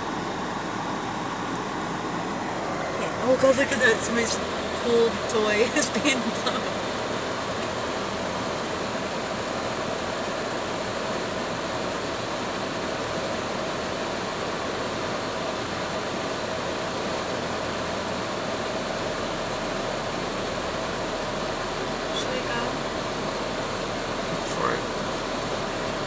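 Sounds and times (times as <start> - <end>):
air-conditioning blower hissing: 0.0 - 26.0.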